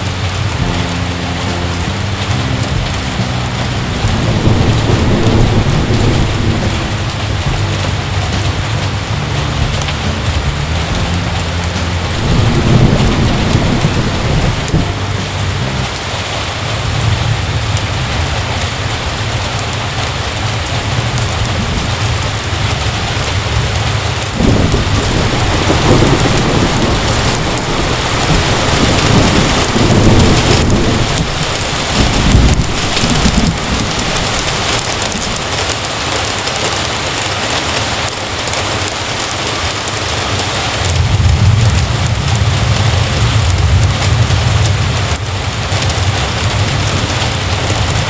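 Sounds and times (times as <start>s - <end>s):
heavy rain: 0.0s - 48.0s
thunder rumbling: 0.0s - 48.0s.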